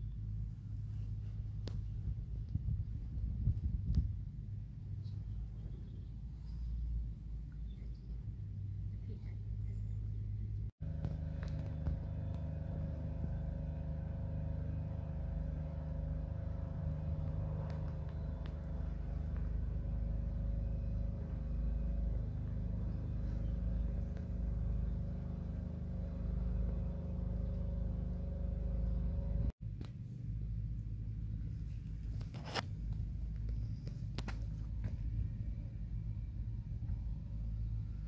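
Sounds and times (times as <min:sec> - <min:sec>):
low rumble of distant engines: 0:00.0 - 0:38.0.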